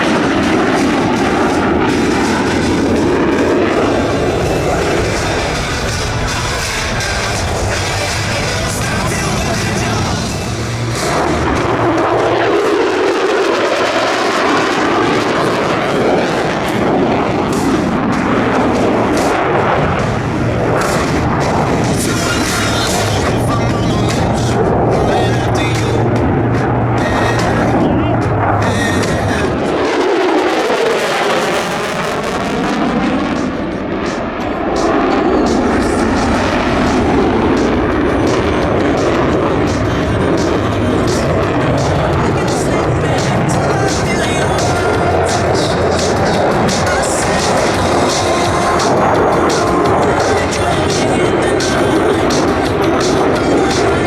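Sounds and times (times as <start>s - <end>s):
loud rough jet engine noise: 0.0s - 54.0s.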